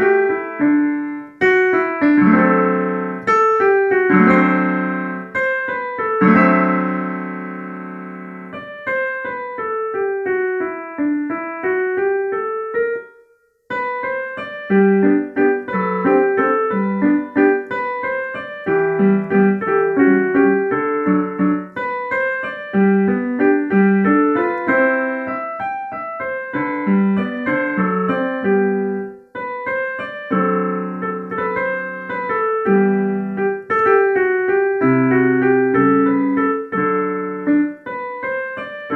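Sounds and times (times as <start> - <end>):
digital piano classical piece: 0.0 - 38.9.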